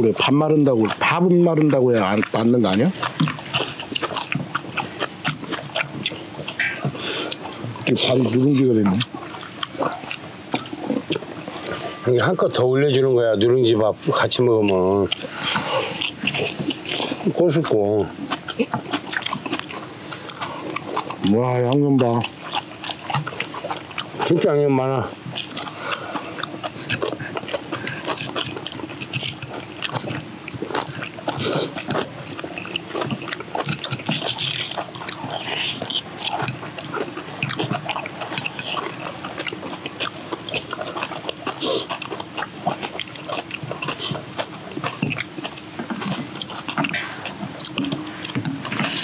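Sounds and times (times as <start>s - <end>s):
wet chewing and lip-smacking: 0.0s - 49.0s.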